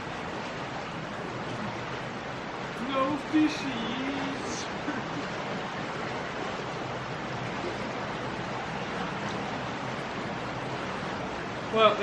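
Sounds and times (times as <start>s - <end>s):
fast-flowing river rushing: 0.0s - 12.0s.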